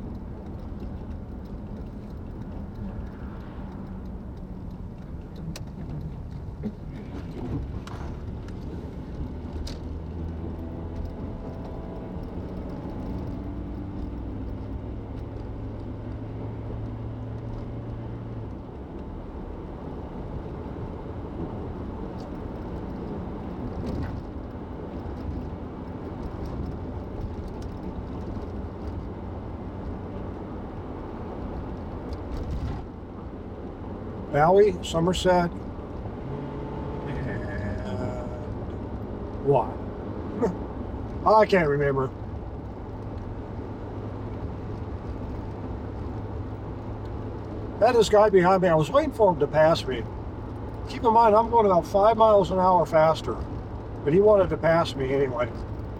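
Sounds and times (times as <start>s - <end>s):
car road and engine noise: 0.0s - 55.9s.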